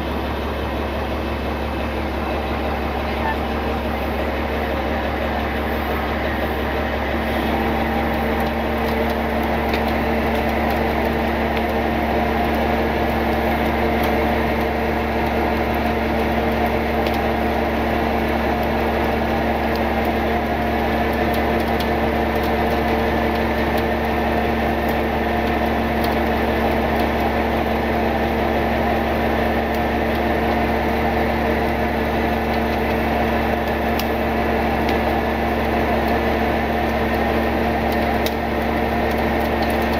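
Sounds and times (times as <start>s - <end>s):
truck engine humming: 0.0s - 39.9s.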